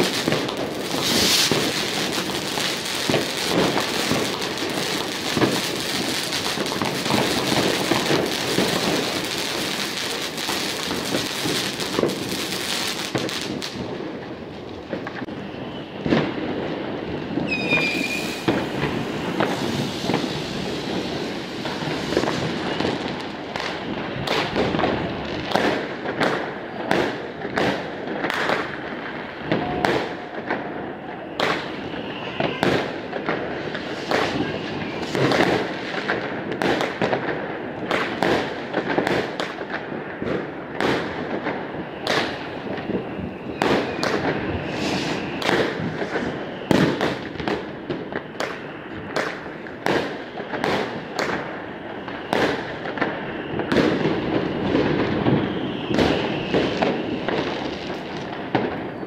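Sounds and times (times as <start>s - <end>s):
firework whistle: 0.0s - 59.0s
fireworks bangs and cracks: 0.0s - 59.0s.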